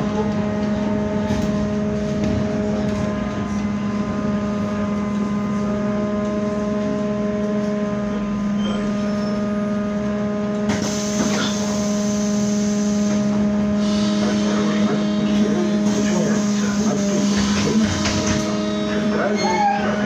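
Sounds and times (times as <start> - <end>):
road and tyre rumble: 0.0 - 20.0
trolleybus electrical hum: 0.0 - 20.0.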